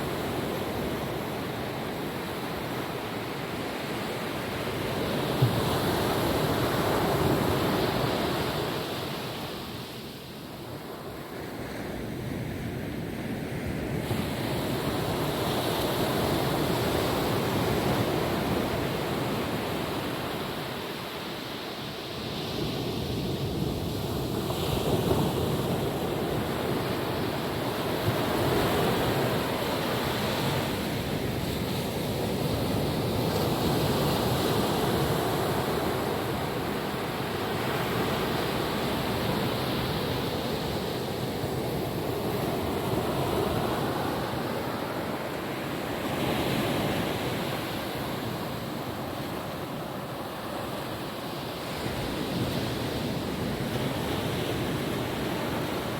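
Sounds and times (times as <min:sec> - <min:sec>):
ocean waves washing onto beach: 0:00.0 - 0:55.9.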